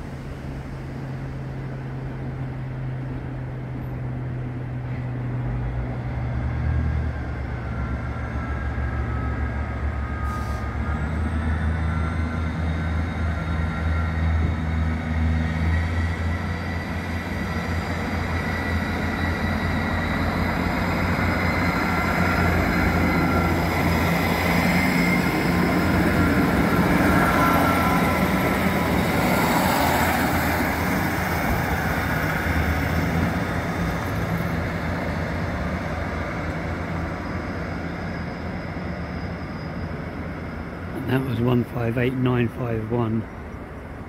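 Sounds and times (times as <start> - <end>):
wheel and rail noise: 0.0 - 41.7
diesel train engine: 0.0 - 44.0.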